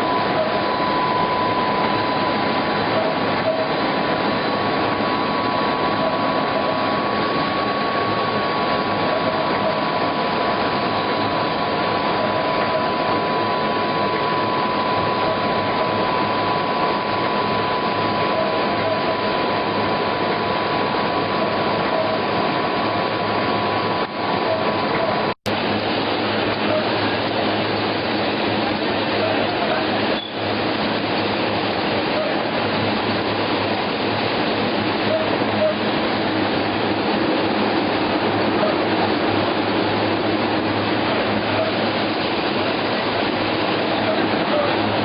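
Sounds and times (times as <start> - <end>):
high machine whine: 0.0 - 45.0
production line machinery running: 0.0 - 45.0.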